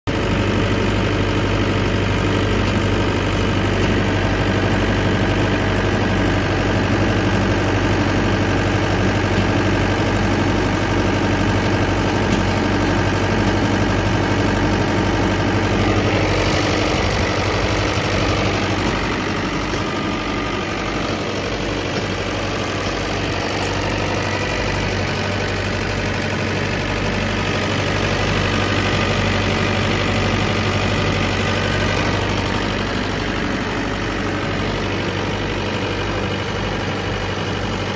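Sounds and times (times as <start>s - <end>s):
diesel generator running: 0.1s - 37.9s.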